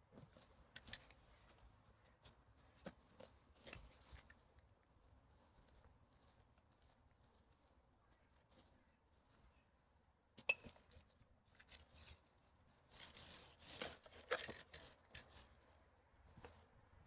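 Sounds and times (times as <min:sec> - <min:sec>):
rustling and crackling litter: 0:00.0 - 0:09.6, 0:10.8 - 0:17.0.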